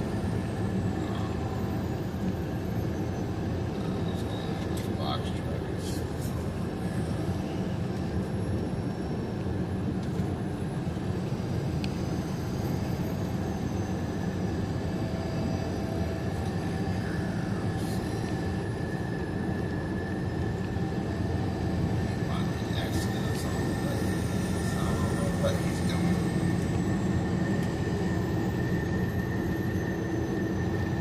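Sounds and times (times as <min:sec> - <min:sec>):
faint high whine: 0:00.0 - 0:31.0
truck engine and road drone: 0:00.0 - 0:31.0.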